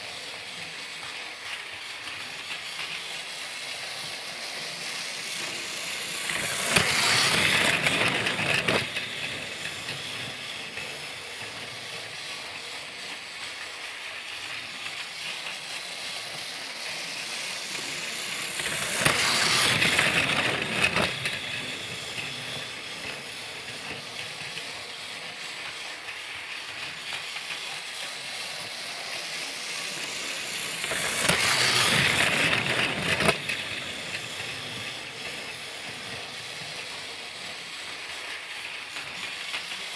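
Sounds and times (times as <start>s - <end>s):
toy train click: 0.0s - 39.9s
toy train motor rattling: 0.0s - 39.9s.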